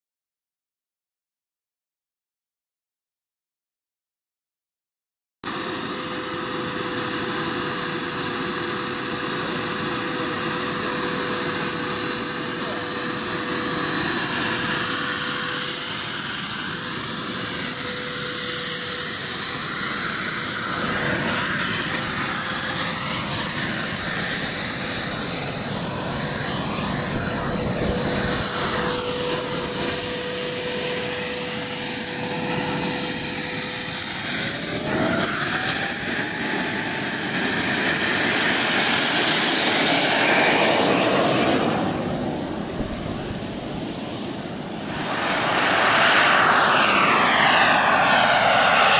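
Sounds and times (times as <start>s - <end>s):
gas turbine whine: 5.5s - 48.9s.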